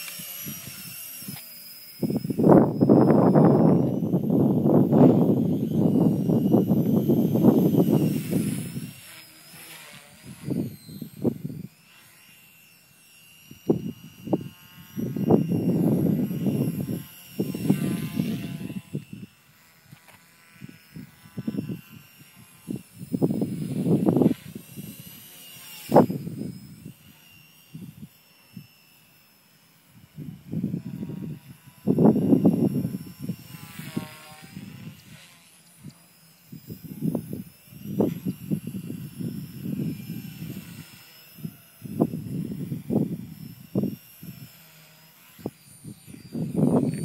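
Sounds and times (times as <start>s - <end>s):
wind on microphone: 0.0s - 9.1s, 10.0s - 11.7s, 13.5s - 19.4s, 20.6s - 28.2s, 30.0s - 44.7s, 45.4s - 47.0s
rc helicopter motor whine: 0.0s - 47.0s.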